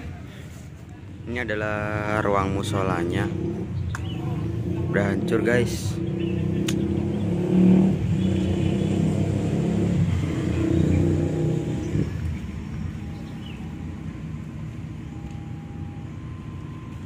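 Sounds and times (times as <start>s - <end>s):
motor engine running: 2.1s - 17.0s.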